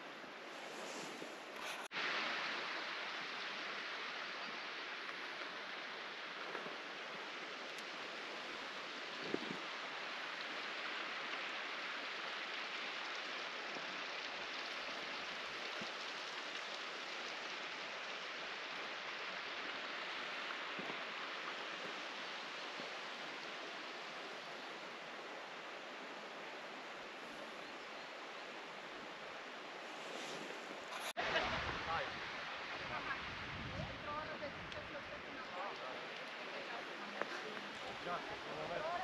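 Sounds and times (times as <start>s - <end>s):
rushing water hiss: 0.0s - 39.0s.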